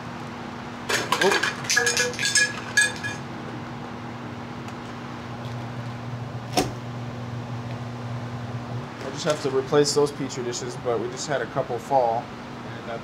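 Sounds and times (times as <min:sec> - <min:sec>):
fan or motor humming: 0:00.0 - 0:13.0.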